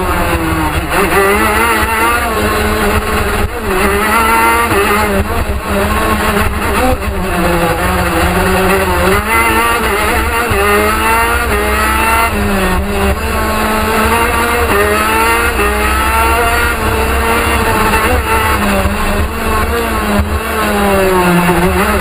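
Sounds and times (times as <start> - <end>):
kart engine accelerating: 0.0 - 22.0.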